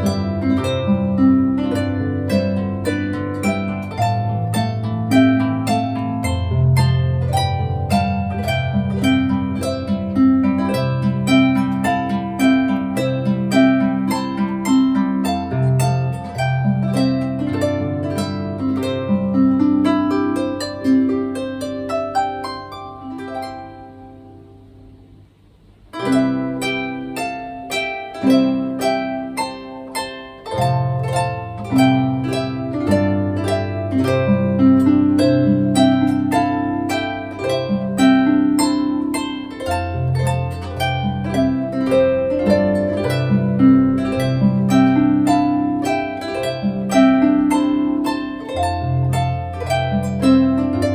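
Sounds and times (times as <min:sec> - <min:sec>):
harp music: 0:00.0 - 0:50.9.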